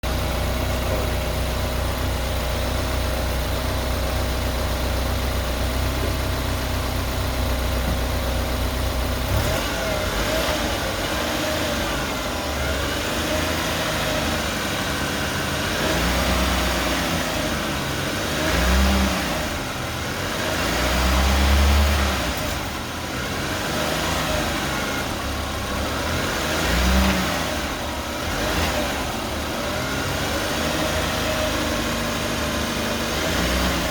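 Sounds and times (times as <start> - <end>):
car engine whining and revving: 0.1 - 33.9.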